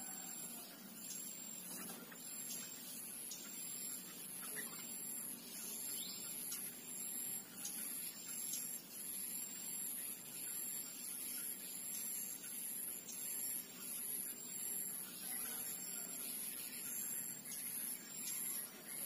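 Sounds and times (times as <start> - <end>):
background hiss: 0.0 - 19.0
faint bird chirps: 0.0 - 19.0.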